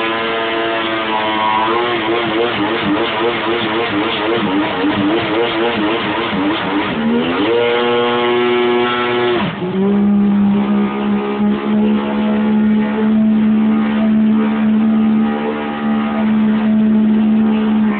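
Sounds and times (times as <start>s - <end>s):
jet ski engine running hard: 0.0s - 17.9s.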